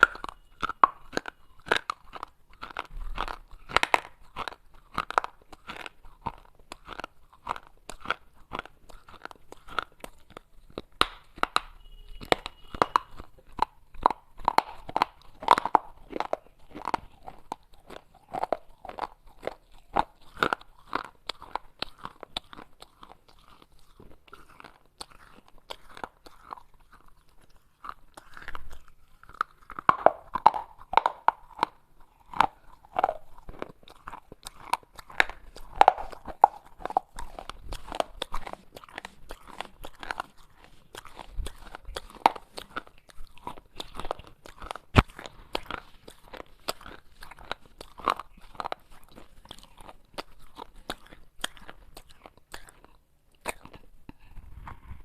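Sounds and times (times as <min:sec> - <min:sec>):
crunching clay pot pieces: 0:00.0 - 0:53.8.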